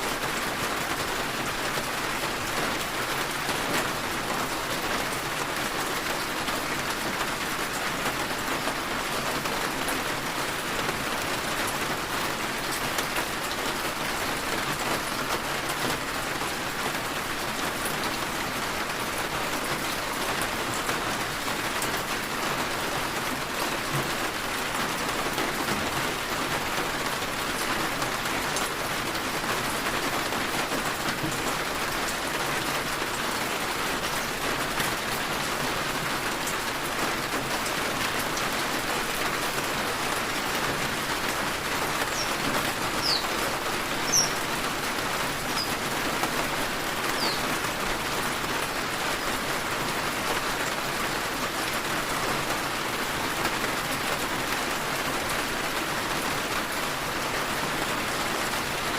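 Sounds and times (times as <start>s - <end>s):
rain pattering on a window: 0.0s - 58.9s.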